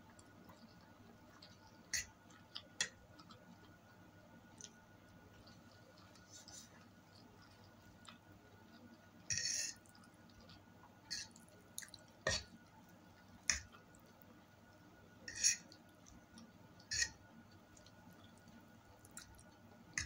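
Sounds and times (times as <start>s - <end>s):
person chewing spaghetti: 0.1s - 20.0s.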